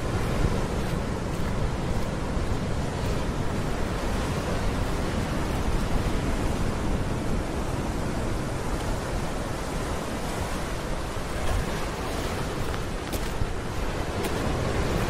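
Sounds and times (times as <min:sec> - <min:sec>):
surf washing among rocks: 0:00.0 - 0:15.0.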